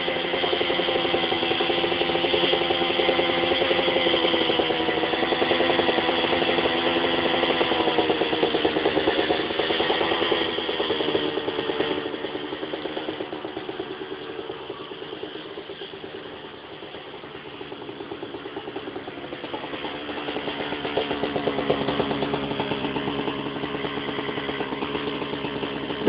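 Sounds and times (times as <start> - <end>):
dirt bike engine idling: 0.0 - 26.0.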